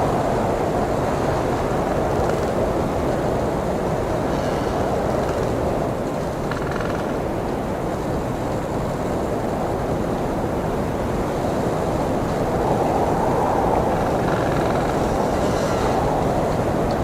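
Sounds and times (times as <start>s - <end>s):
blizzard wind blowing: 0.0s - 6.5s, 7.6s - 17.0s.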